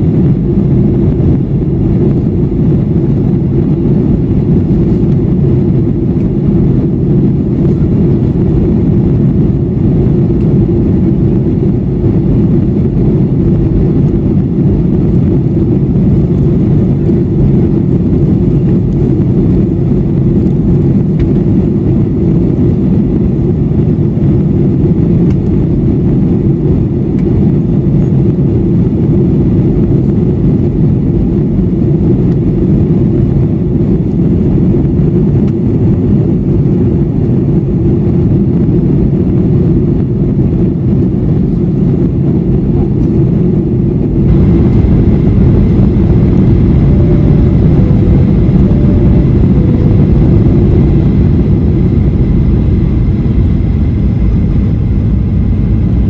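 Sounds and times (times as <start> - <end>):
jet airliner cabin rumble: 0.0 - 56.0.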